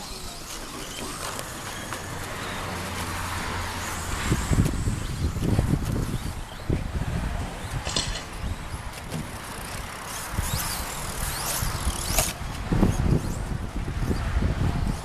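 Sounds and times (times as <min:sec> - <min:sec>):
electric motors whining: 0:00.0 - 0:06.8, 0:08.4 - 0:15.0.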